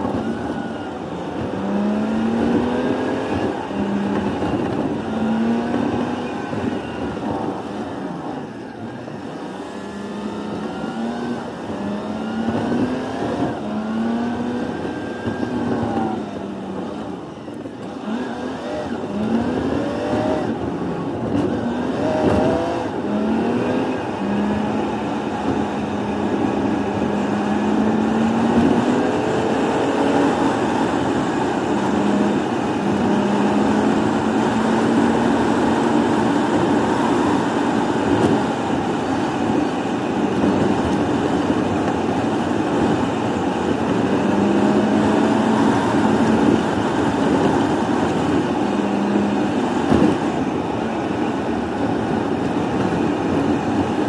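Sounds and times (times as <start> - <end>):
sped-up truck engine: 0.0 - 54.0.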